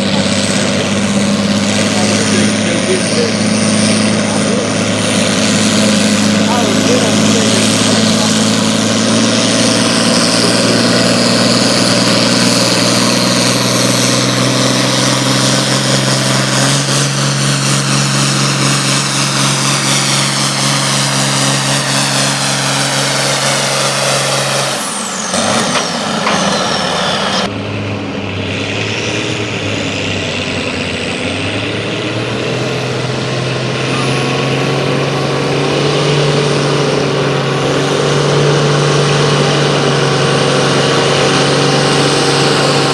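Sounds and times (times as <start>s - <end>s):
engine running hard under load: 0.0s - 42.9s.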